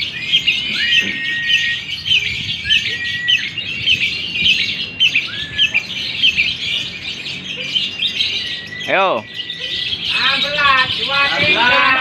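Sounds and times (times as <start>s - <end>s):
lovebird chattering song: 0.0s - 12.0s.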